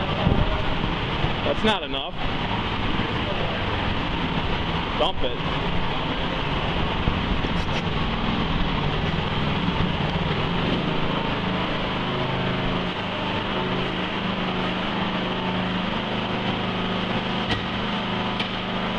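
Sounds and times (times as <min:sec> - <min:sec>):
mini dumper engine running: 0:00.0 - 0:18.9.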